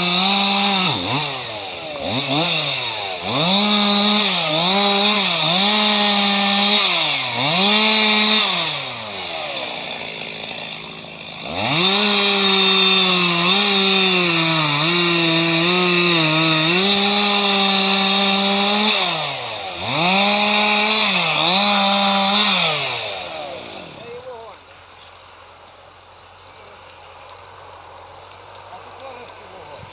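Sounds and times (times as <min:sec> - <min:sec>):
chainsaw cutting wood: 0:00.0 - 0:29.9.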